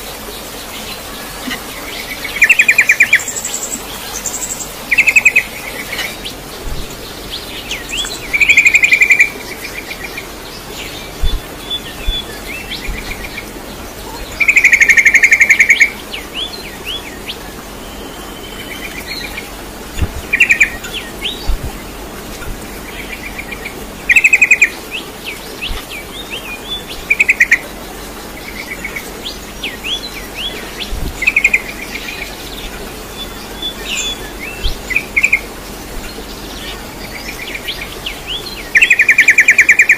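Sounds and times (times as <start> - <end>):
bird chirping and trilling: 0.7 - 39.9.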